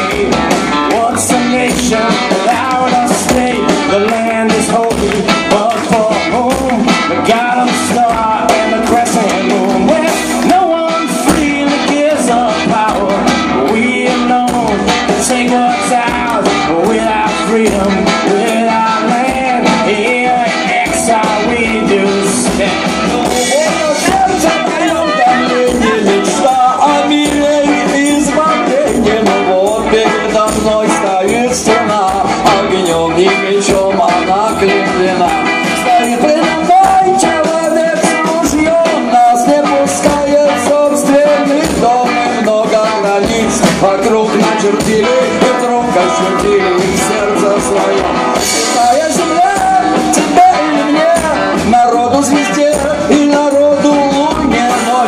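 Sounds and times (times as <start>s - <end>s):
drums steady beat: 0.0s - 55.0s
live band playing: 0.0s - 55.0s.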